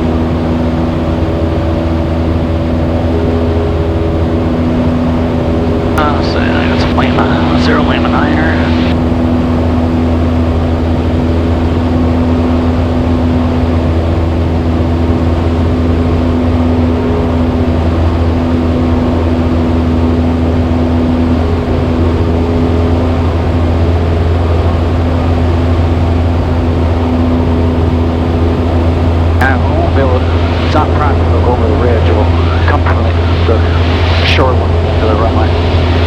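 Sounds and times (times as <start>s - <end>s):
airplane engine and propeller droning: 0.0s - 36.0s.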